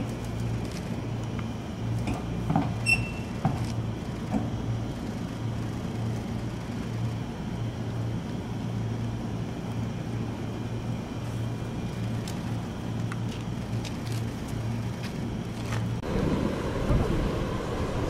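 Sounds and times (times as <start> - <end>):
electric train equipment humming: 0.0 - 18.0.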